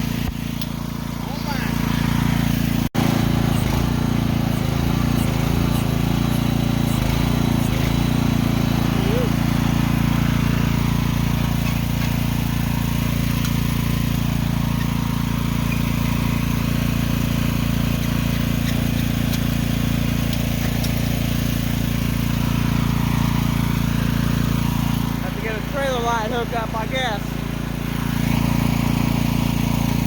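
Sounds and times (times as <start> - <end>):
excavator engine running: 0.0 - 30.0.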